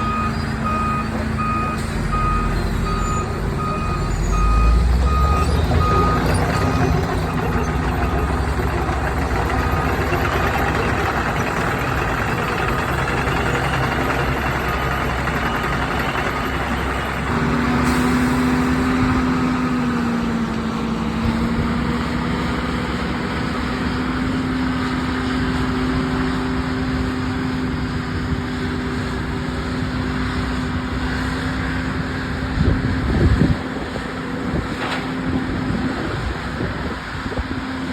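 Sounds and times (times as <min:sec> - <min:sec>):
diesel engine rumble: 0:00.0 - 0:37.9.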